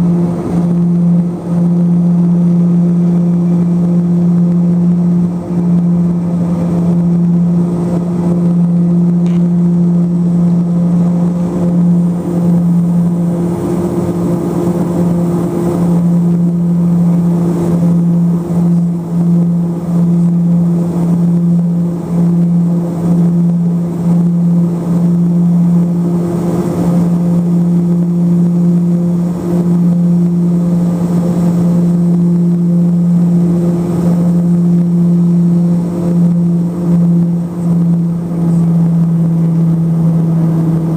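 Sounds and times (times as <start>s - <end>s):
engine and air rush: 0.0s - 40.9s
propeller hum: 0.0s - 40.9s.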